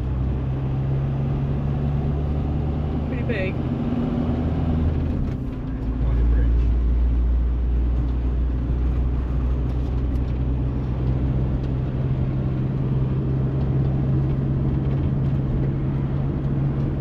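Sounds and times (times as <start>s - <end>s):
van engine and road drone: 0.0s - 17.0s.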